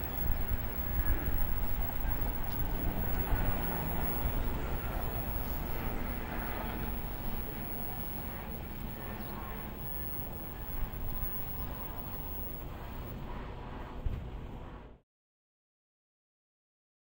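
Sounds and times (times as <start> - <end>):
train rumble and rail noise: 0.0 - 15.0.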